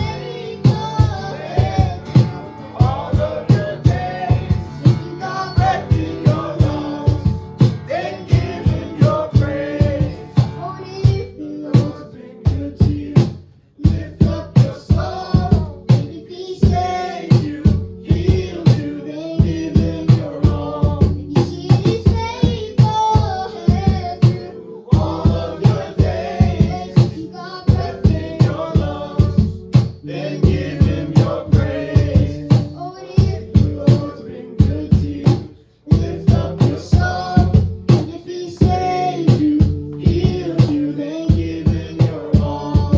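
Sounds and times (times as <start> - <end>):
live worship band music: 0.0 - 42.9
steady drum beat: 0.0 - 42.9.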